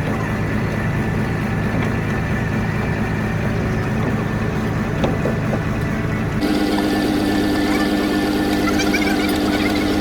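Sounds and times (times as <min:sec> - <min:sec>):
heavy machine engine idling: 0:00.0 - 0:10.0.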